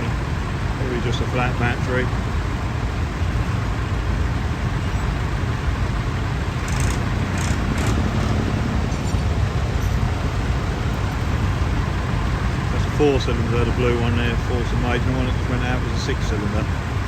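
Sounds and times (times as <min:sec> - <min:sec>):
tractor diesel engines rumbling: 0:00.0 - 0:17.0.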